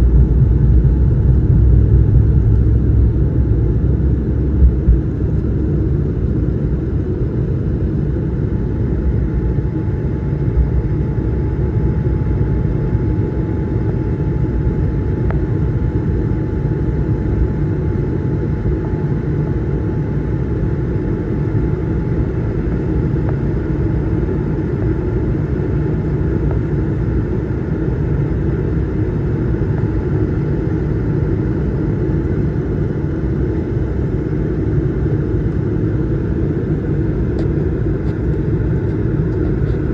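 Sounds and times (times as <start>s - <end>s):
aircraft cabin rumble: 0.0s - 39.9s
faint steady whine: 0.0s - 39.9s.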